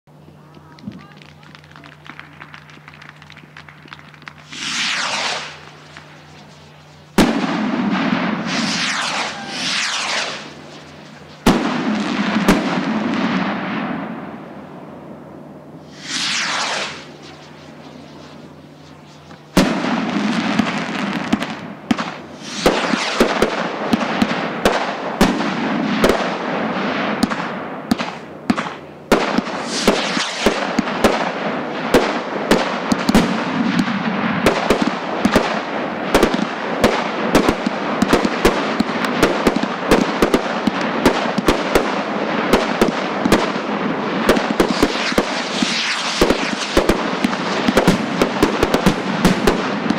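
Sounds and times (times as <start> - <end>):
fireworks crackling: 0.2 - 49.9
fireworks sharp bangs: 0.7 - 15.2, 15.8 - 49.9.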